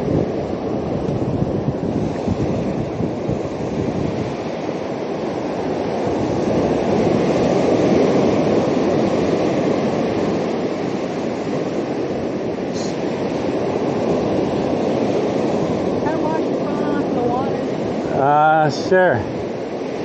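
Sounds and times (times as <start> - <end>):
surf breaking on shore: 0.0 - 20.0
wind on microphone: 0.0 - 20.0.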